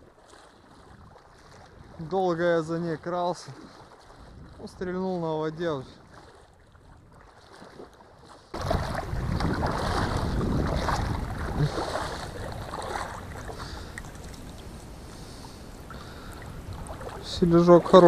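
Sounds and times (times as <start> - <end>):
water sloshing as person wades: 0.0 - 18.0.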